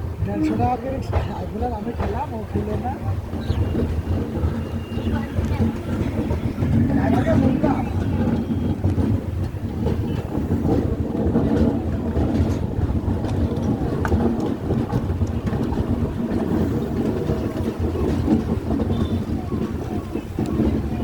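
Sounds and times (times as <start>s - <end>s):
passenger train rumbling: 0.0s - 21.0s
wind buffeting microphone: 0.0s - 21.0s.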